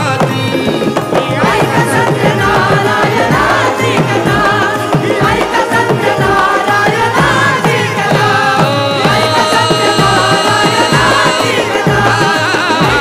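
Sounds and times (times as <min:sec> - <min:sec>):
hand drum beat: 0:00.0 - 0:13.0
instrumental melody: 0:00.0 - 0:13.0.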